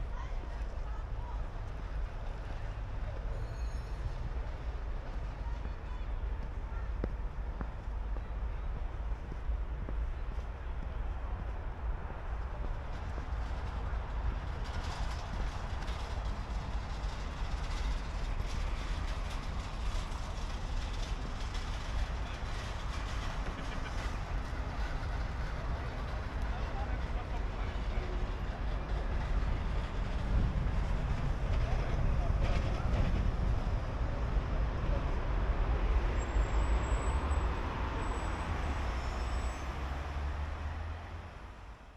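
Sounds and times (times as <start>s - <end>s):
vehicle traffic rumble: 0.0s - 41.9s.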